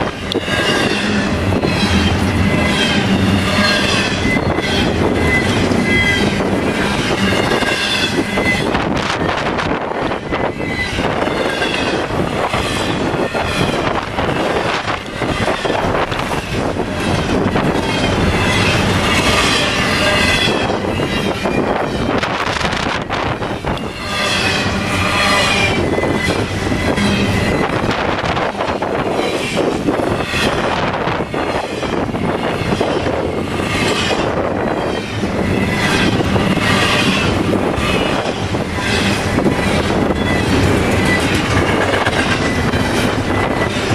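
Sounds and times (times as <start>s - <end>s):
train wheels rumbling on rail: 0.0s - 43.9s
wavering wheel squeal: 0.0s - 43.9s.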